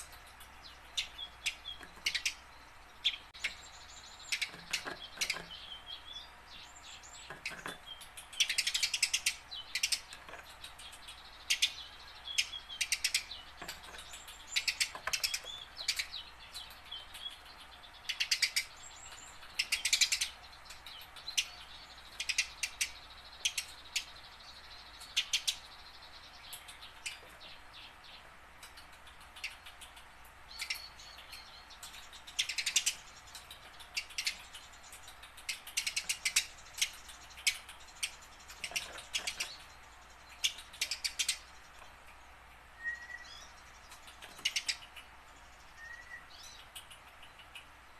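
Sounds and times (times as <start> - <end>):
sparrow chirping: 0.0 - 47.9.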